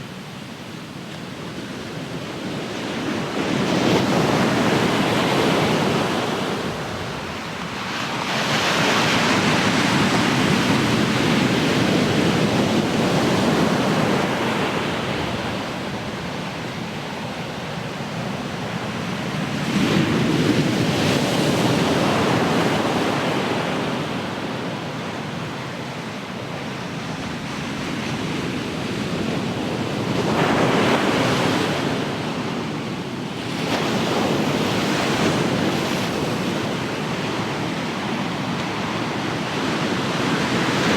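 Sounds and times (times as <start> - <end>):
ocean waves breaking: 2.5 - 40.9.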